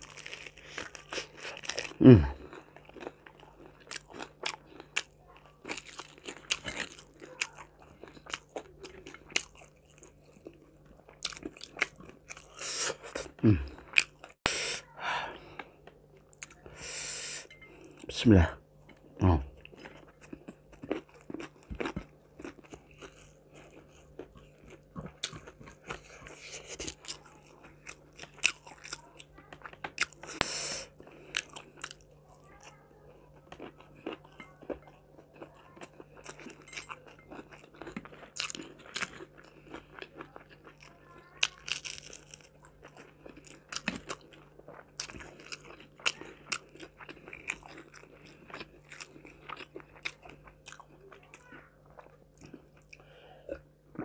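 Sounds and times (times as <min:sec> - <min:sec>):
crisp crunching and chewing: 0:00.0 - 0:14.4, 0:18.8 - 0:54.0.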